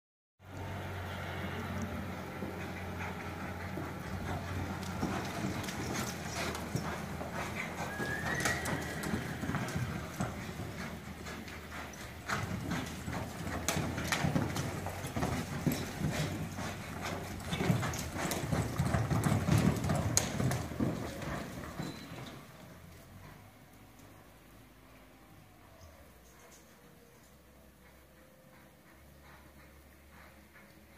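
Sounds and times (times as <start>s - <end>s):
horse hoofbeats on dirt: 0.6s - 24.3s, 27.4s - 30.9s.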